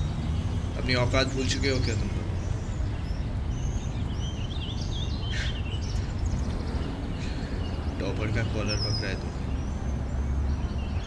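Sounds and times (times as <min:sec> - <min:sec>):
birds chirping: 0:00.0 - 0:11.0
low outdoor rumble: 0:00.0 - 0:11.0.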